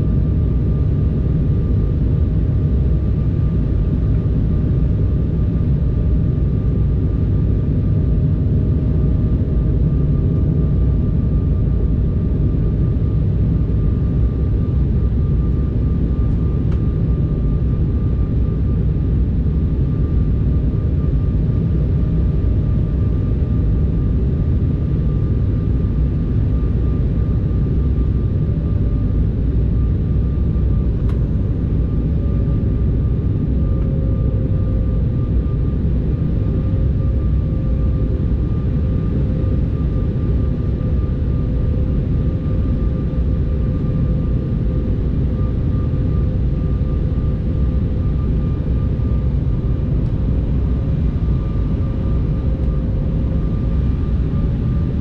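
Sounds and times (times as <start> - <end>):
airliner engine hum: 0.0 - 55.0
faint steady whine: 0.0 - 55.0.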